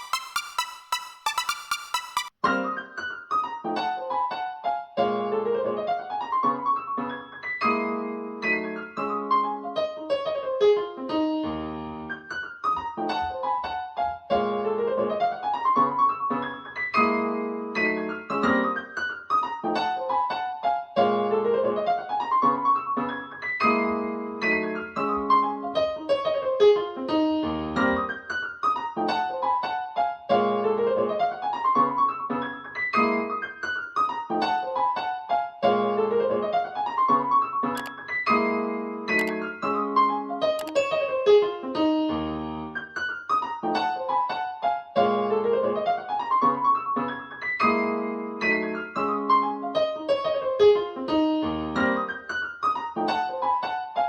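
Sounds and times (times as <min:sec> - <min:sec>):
piano music through speaker: 0:00.0 - 0:42.8, 0:43.4 - 0:54.0.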